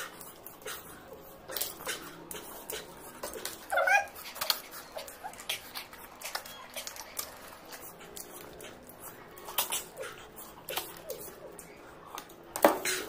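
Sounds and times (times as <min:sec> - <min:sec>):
chewing clicks and smacks: 0:00.0 - 0:13.0.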